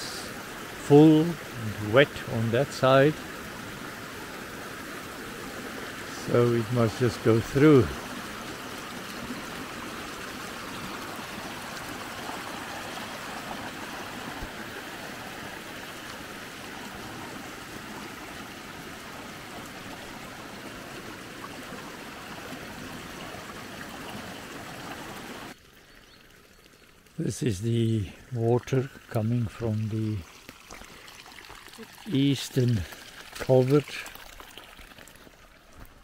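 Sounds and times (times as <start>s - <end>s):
water rushing from a pipe: 0.0s - 36.0s
water splashing over rocks: 0.0s - 36.0s.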